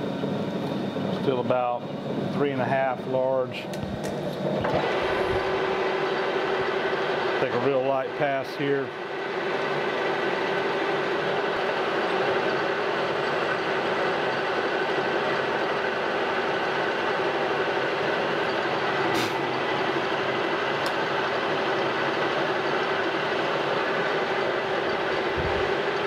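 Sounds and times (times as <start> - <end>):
metal lathe humming and whining: 0.0 - 26.0.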